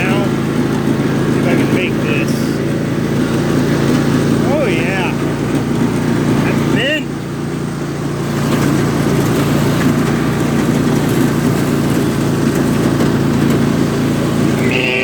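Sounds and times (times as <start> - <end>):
lawn tractor engine droning: 0.0 - 15.0.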